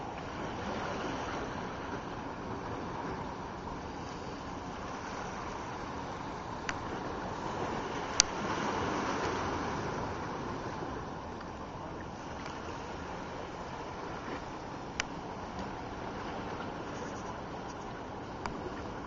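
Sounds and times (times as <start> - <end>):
calm sea water: 0.0 - 19.0
wind: 0.0 - 19.0.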